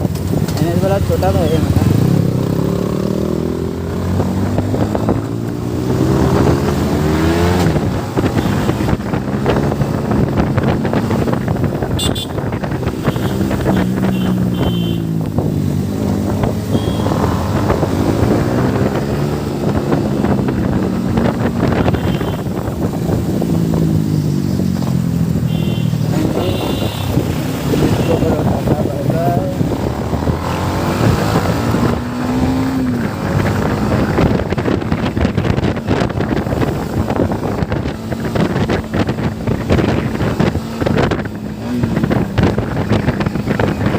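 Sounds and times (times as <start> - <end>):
motorcycle engine accelerating: 0.0 - 43.9
wind on microphone: 1.7 - 43.9.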